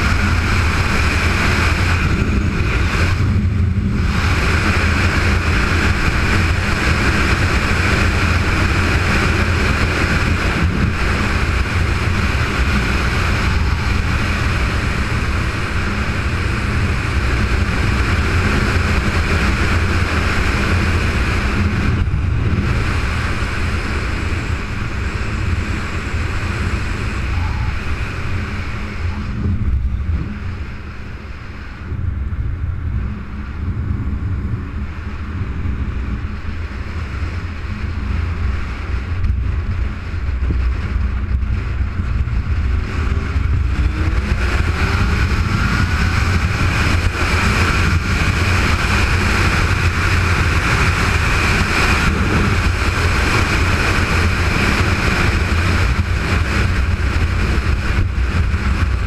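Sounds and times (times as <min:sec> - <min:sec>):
motorcycle engine rumble: 0:00.0 - 0:59.0
wind rushing over microphone: 0:00.0 - 0:59.0.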